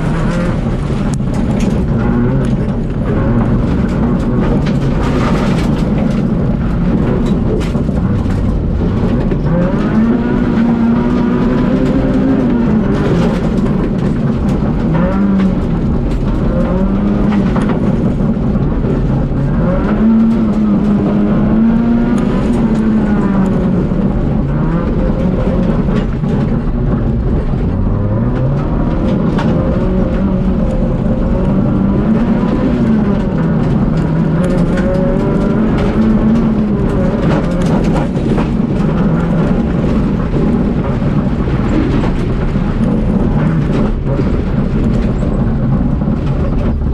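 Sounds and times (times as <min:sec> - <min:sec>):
rally car engine revving: 0:00.0 - 0:46.9
tyre and surface noise: 0:00.0 - 0:46.9.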